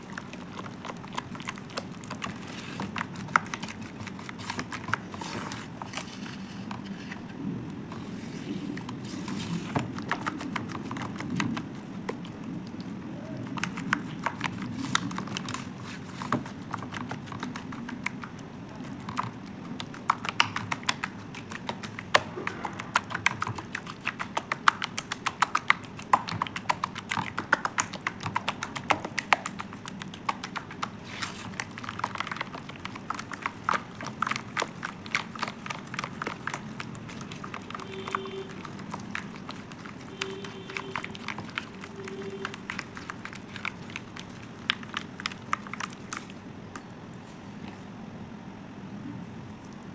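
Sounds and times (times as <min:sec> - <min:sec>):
hand squelching wet paste: 0:00.0 - 0:47.7.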